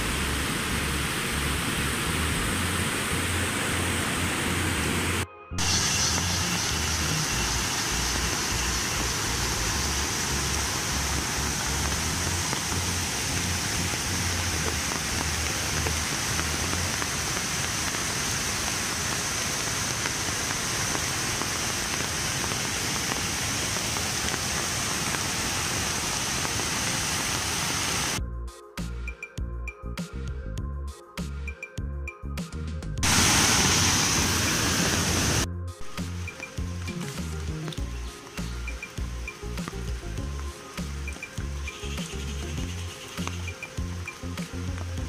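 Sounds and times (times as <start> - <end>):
waterfall and rapids rushing: 0.0 - 28.2, 33.0 - 45.0.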